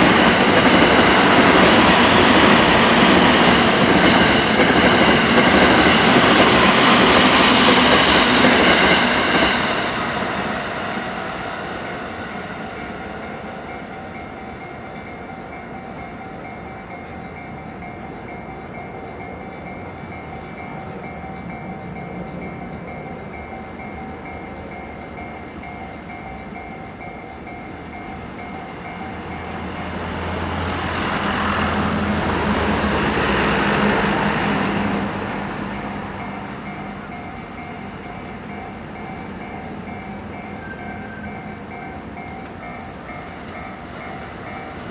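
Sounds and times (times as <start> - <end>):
level crossing warning bell: 0.0 - 32.3, 33.1 - 44.9
electric train passing: 0.0 - 44.9.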